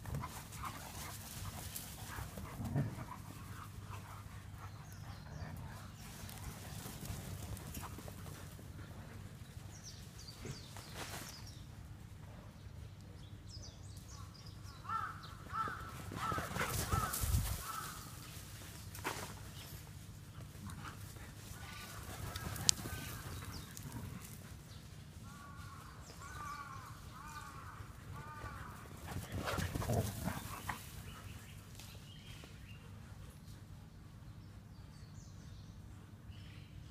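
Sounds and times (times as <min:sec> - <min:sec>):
dogs playing: 0:00.0 - 0:11.6, 0:14.9 - 0:25.2, 0:25.8 - 0:33.9.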